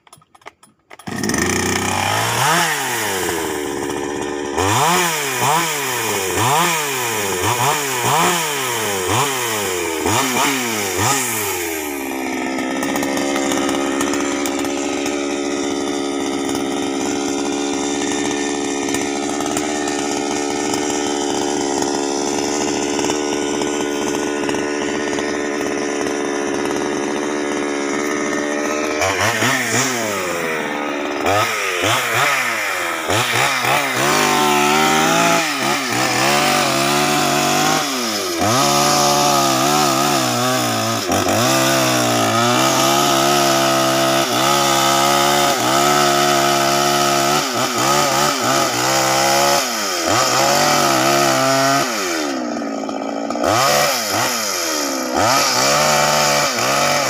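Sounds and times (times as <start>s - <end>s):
chainsaw cutting wood: 0.0s - 57.0s
chainsaw idling and revving: 0.0s - 57.0s.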